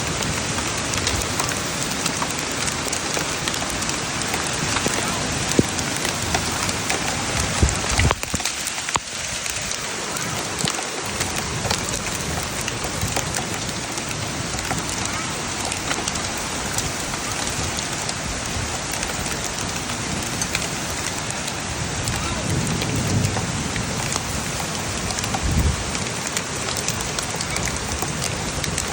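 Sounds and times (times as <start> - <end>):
hailstones ticking: 0.0 - 28.9
heavy rain hissing: 0.0 - 28.9.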